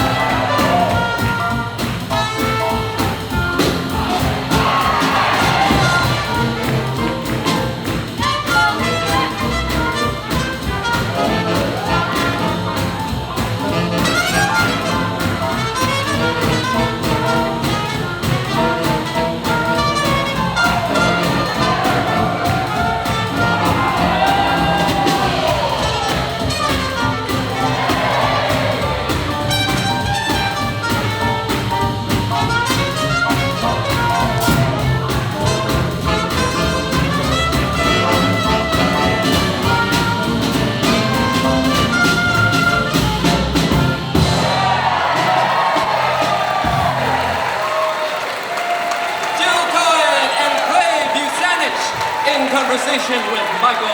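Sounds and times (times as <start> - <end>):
sliding brass lines: 0.0 - 47.7
big band swing jazz: 0.0 - 49.8.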